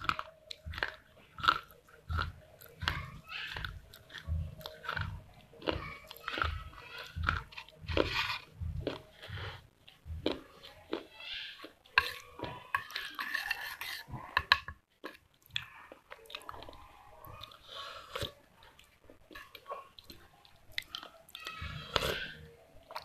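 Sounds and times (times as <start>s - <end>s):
person chewing with crunching: 0.0s - 23.0s.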